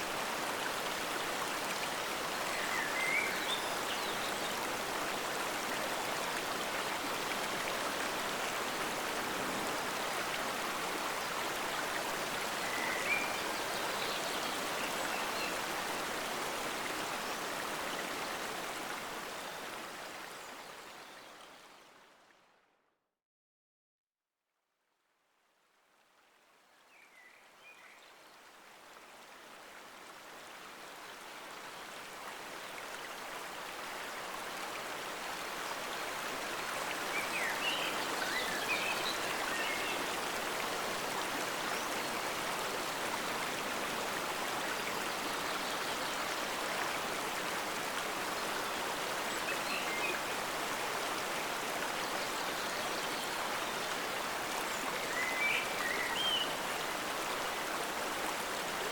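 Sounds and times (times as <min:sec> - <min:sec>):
stream water rushing: 0:00.0 - 0:21.2, 0:28.5 - 0:58.9.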